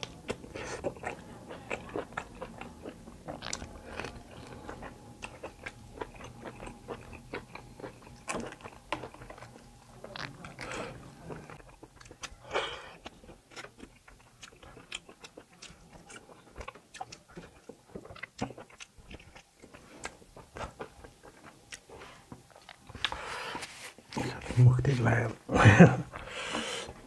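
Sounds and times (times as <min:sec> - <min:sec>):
chewing meat on the bone: 0:00.0 - 0:24.4.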